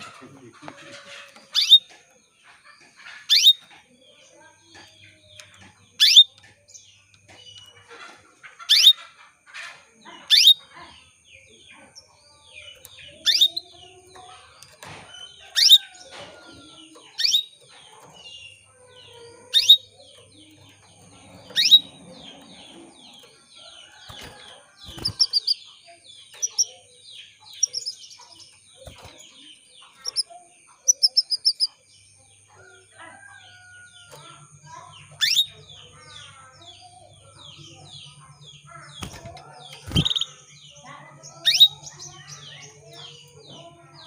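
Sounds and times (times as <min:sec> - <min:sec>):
canary chirping calls: 0:00.0 - 0:44.0
many small birds chirping: 0:00.0 - 0:44.0.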